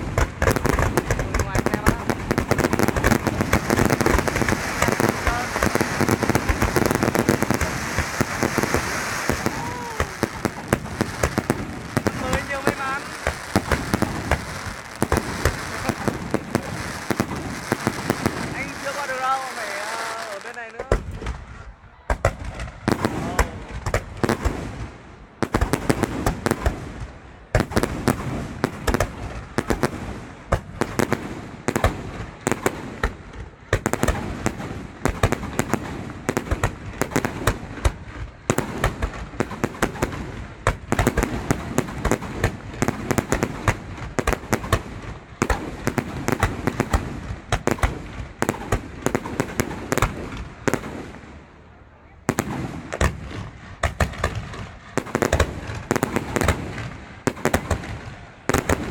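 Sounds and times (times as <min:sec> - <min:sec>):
fireworks bursting: 0:00.0 - 0:58.9.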